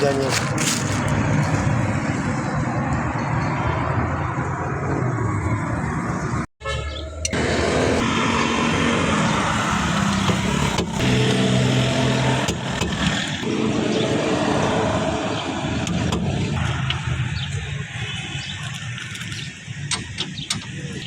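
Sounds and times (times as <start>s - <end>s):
vehicle engine noise: 0.0s - 21.0s.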